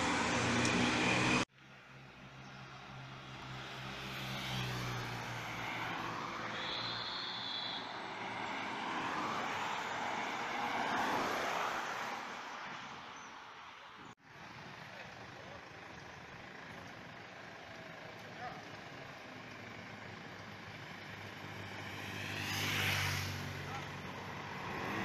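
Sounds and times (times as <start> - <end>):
vehicle engine and tyre noise: 0.0 - 25.0.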